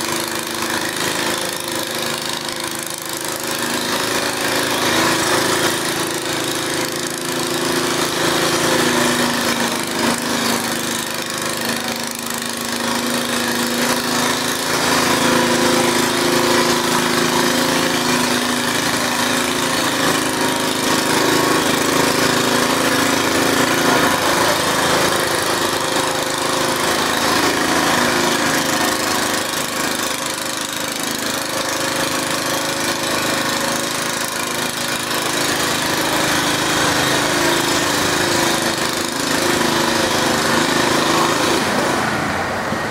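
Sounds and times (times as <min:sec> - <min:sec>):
tractor engine running loudly: 0:00.0 - 0:42.9.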